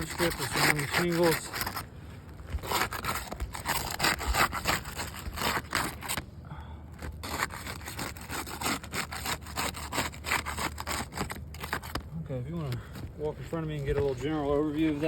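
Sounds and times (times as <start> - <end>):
tool scraping roof shingles: 0.0 - 6.2, 7.0 - 15.0.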